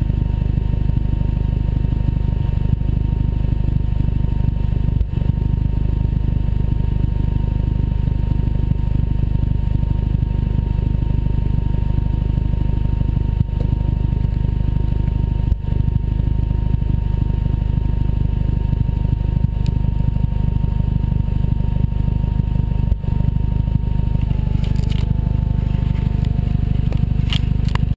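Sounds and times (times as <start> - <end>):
car engine running and stumbling: 0.0 - 27.9.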